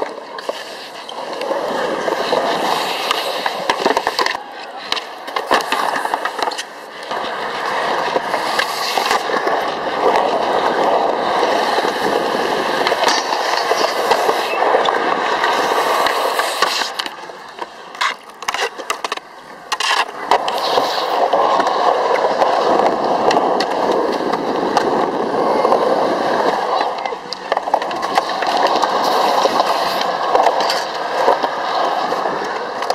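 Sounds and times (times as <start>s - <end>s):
skateboard clacks: 0.0s - 32.9s
skateboard wheels rolling on concrete: 0.0s - 32.9s.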